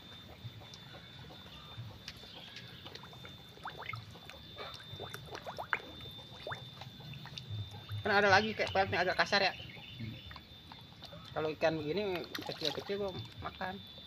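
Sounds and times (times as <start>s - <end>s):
steady high-pitched whine: 0.0s - 14.0s
water trickling and splashing: 0.3s - 14.0s.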